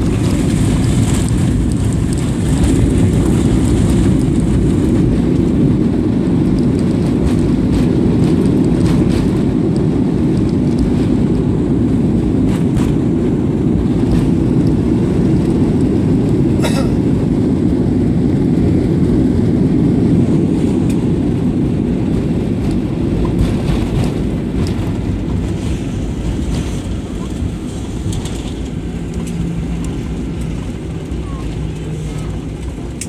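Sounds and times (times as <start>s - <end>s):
airliner engine and wheel rumble: 0.0s - 33.0s.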